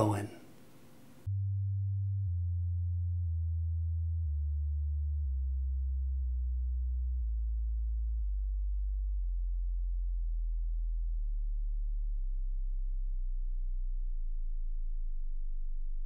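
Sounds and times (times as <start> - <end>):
deep electronic sine tone: 1.3 - 16.0.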